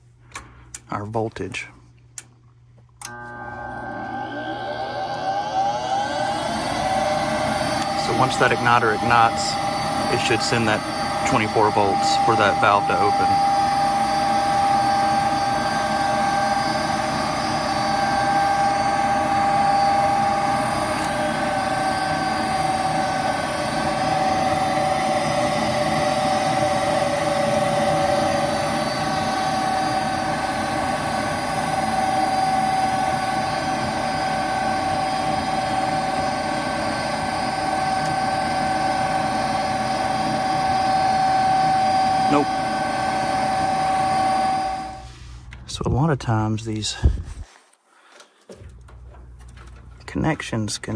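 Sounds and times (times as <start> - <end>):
furnace inducer motor whining: 2.2 - 50.9.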